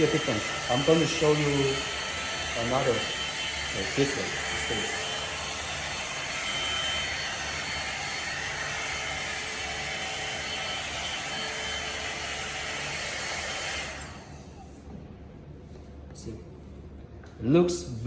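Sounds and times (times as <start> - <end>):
hair dryer running: 0.0 - 14.8.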